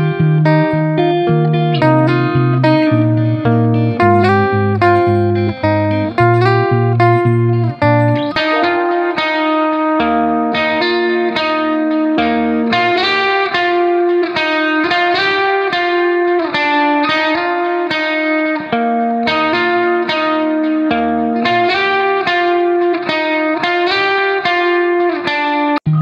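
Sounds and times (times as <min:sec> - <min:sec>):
plucked guitar melody: 0:00.0 - 0:26.0.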